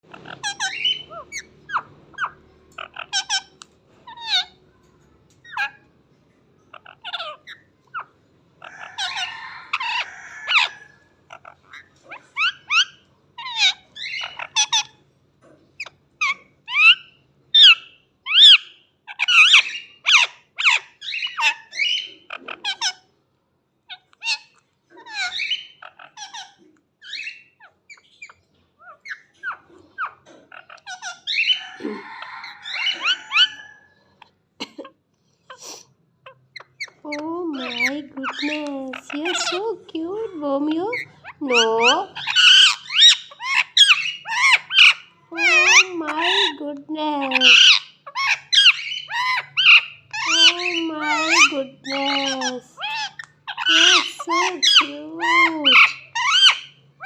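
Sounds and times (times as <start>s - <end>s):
parrot chirping and squawking: 0.0s - 57.0s.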